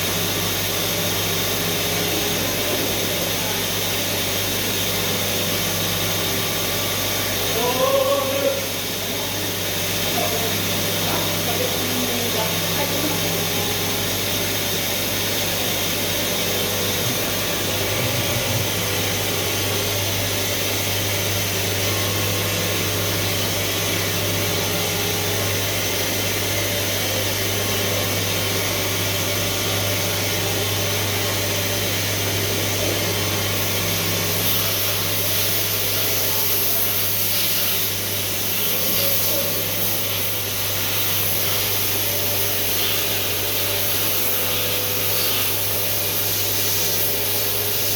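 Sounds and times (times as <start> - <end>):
machine running with hum and hiss: 0.0 - 47.9.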